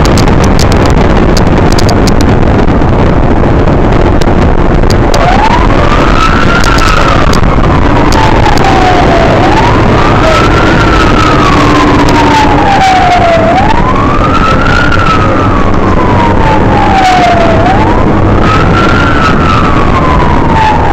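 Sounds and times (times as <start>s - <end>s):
fire truck siren wailing: 0.0s - 20.9s
truck engine and road rumble: 0.0s - 20.9s.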